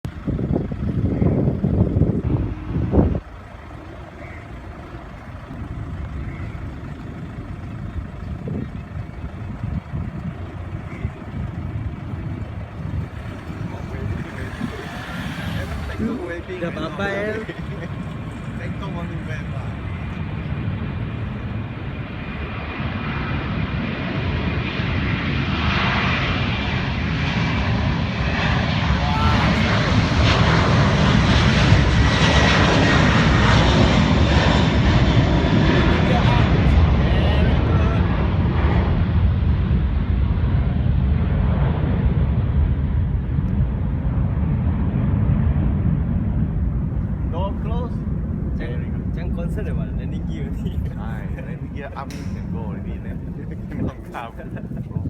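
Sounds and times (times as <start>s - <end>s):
airliner engine rumble: 0.0s - 55.0s.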